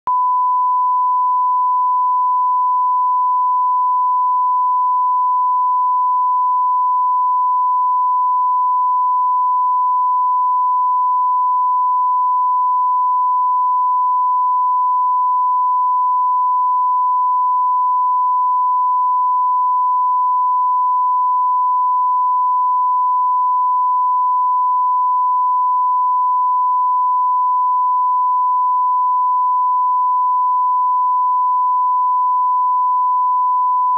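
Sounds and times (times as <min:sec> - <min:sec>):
steady test tone beep: 0:00.1 - 0:33.9.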